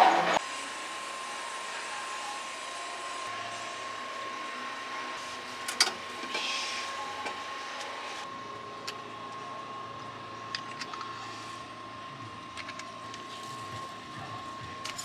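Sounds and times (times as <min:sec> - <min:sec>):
kitchen equipment whirring hiss: 0:00.0 - 0:15.0
thin steady whine: 0:00.0 - 0:15.0.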